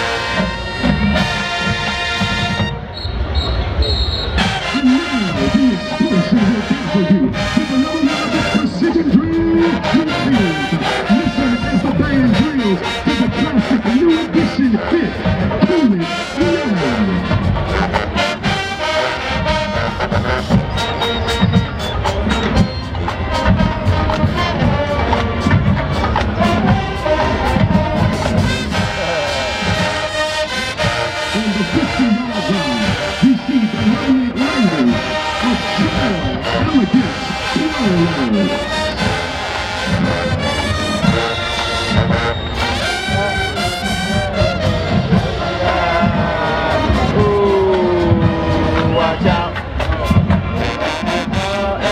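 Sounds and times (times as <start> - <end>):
marching band brass: 0.0 - 51.9
steady drum beat: 4.4 - 51.9.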